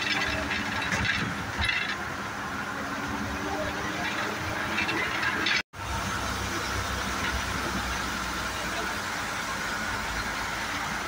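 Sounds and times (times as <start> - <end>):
bus diesel engine drone: 0.0 - 11.0
road noise and rattle: 0.0 - 11.0.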